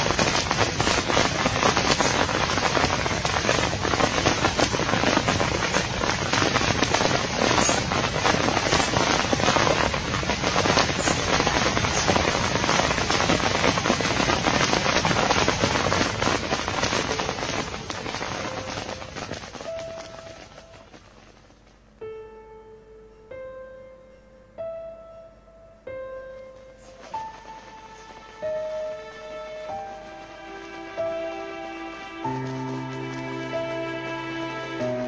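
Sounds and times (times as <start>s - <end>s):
heavy rain on leaves: 0.0s - 21.9s, 26.6s - 35.0s.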